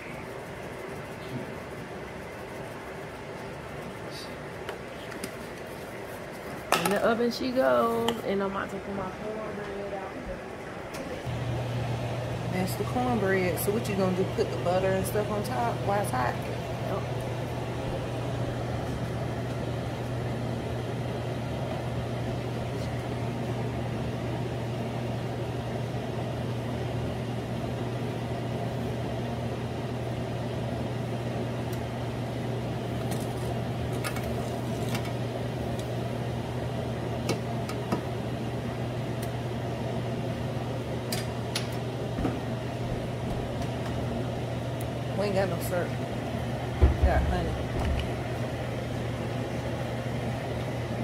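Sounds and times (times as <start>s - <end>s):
vent fan hum: 0.0s - 51.0s.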